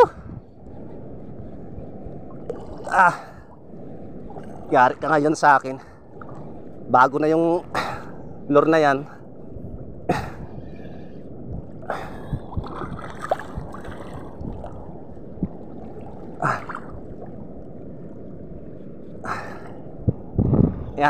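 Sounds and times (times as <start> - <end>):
wind: 0.0 - 21.0
rushing water: 1.7 - 9.0, 10.1 - 21.0.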